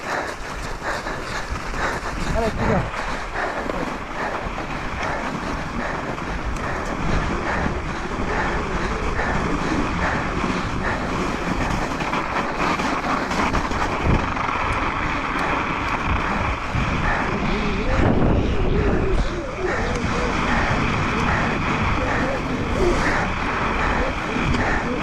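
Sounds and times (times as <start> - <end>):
bike rattling: 0.0 - 25.0
tyres hissing through snow: 0.0 - 25.0
wind noise on microphone: 0.0 - 25.0.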